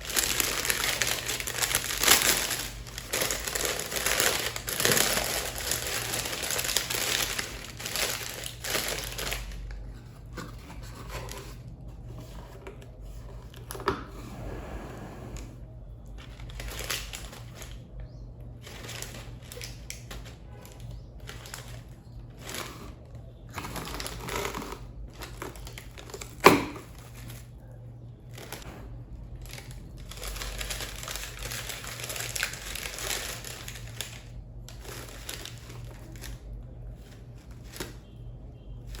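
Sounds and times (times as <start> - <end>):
cling film crinkling: 0.0 - 12.2, 15.9 - 28.6, 29.3 - 39.0
faint low hum: 0.0 - 39.0.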